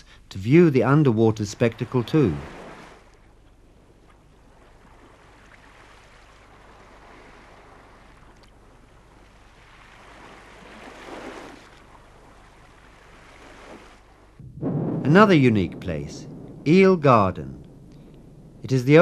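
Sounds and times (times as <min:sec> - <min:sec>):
faint sea surf: 0:00.0 - 0:19.0.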